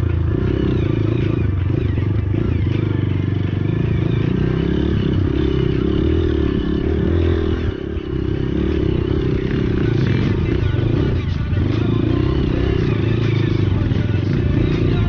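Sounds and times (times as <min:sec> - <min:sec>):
motorcycle engine running hard: 0:00.0 - 0:15.0.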